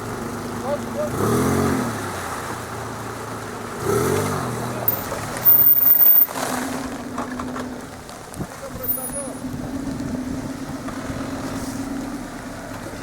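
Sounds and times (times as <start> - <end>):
off-road engine revving: 0.0 - 13.0.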